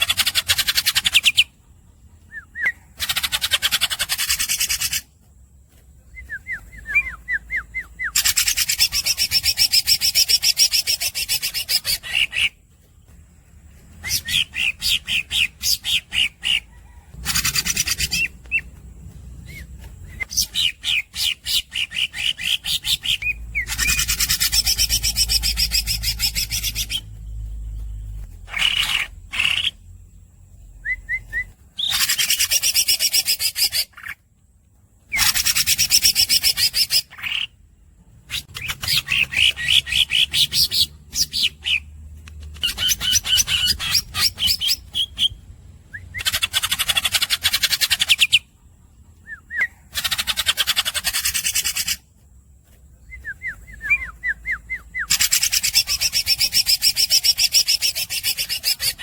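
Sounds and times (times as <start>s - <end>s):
bird squeaky chirps: 2.3s - 5.1s, 6.2s - 12.6s, 13.9s - 29.8s, 30.8s - 34.2s, 35.1s - 37.6s, 38.3s - 48.5s, 49.2s - 52.0s, 53.0s - 59.0s.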